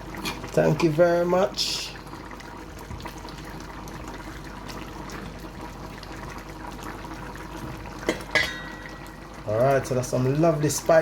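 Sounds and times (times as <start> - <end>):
pot simmering and bubbling: 0.0 - 11.0.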